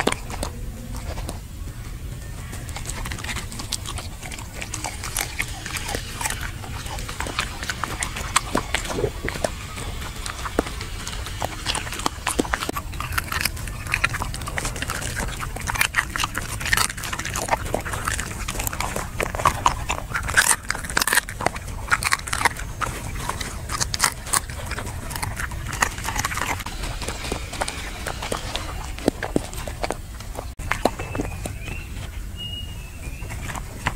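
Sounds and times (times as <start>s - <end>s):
dog chewing and crunching: 0.0s - 33.9s
steady low hum: 0.0s - 33.9s.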